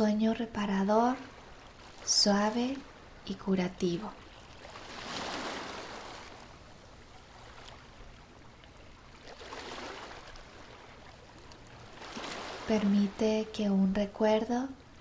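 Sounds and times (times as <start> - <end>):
ocean waves washing on shore: 0.0 - 15.0.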